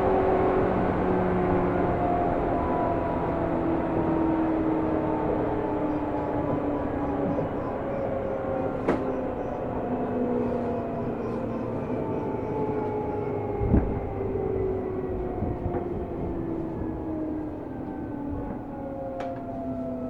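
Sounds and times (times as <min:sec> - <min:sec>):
train running rumble: 0:00.0 - 0:19.5.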